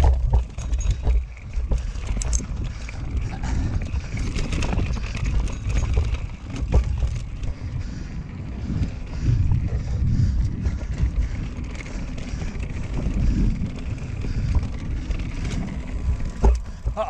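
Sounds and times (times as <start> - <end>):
bike rattling knocks: 0.0 - 7.9, 10.2 - 17.0
bike tyres rumbling on dirt: 0.0 - 17.0.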